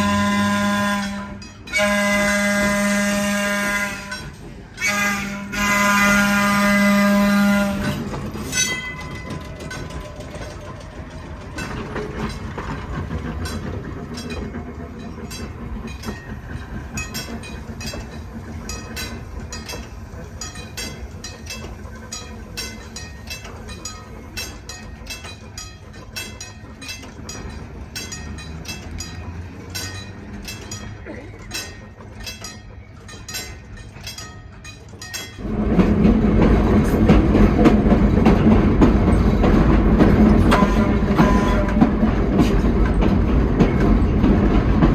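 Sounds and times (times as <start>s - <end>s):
electric rail car rumbling: 0.0s - 44.9s
wheels clacking over rails: 0.0s - 44.9s.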